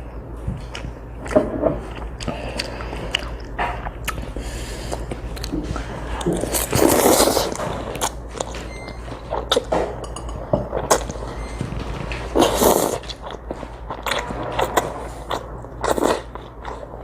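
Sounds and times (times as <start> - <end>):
child chewing noodles: 0.0 - 9.7, 11.8 - 17.0.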